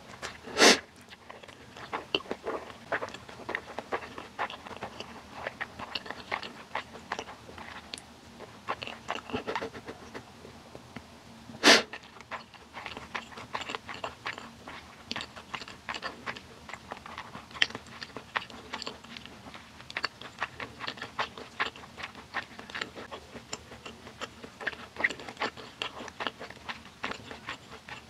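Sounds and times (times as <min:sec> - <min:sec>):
person chewing food: 0:00.0 - 0:10.9, 0:11.7 - 0:28.0.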